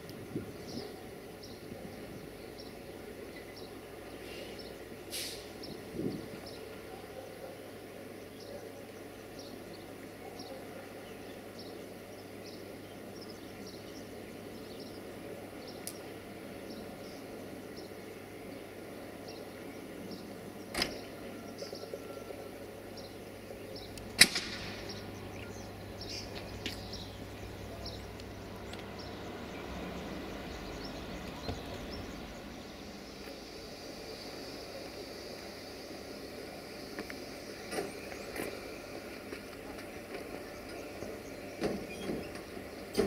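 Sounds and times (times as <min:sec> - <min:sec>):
locomotive hum and rumble: 0:00.0 - 0:43.0.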